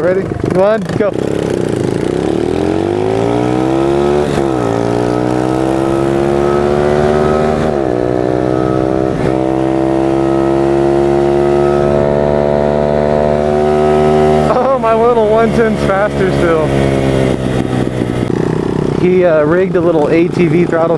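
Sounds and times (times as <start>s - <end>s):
small motorbike engine accelerating: 0.8s - 19.7s.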